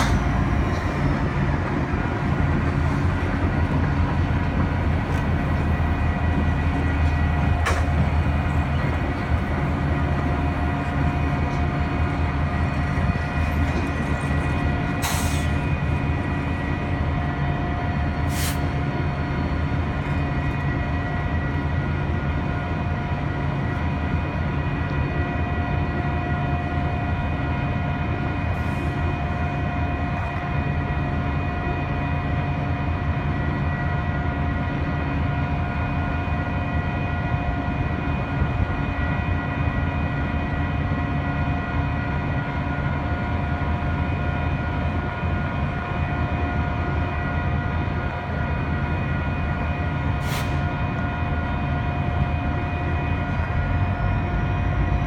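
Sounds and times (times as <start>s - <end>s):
freight train passing slowly: 0.0s - 55.0s.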